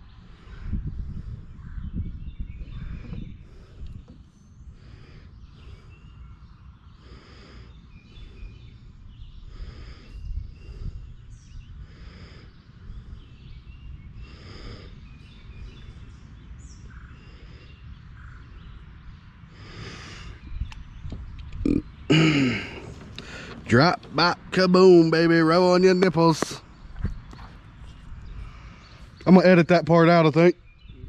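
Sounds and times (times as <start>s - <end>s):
faint bird chirps: 0.0s - 23.5s, 26.6s - 31.0s
wind buffeting microphone: 0.0s - 31.0s.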